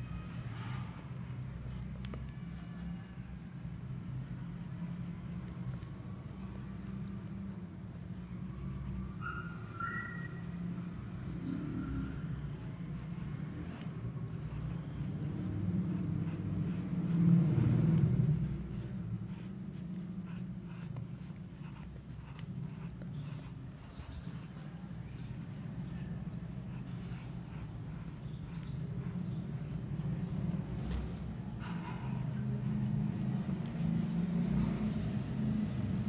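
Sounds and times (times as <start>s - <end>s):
pencil scratching on paper: 4.0s - 36.0s.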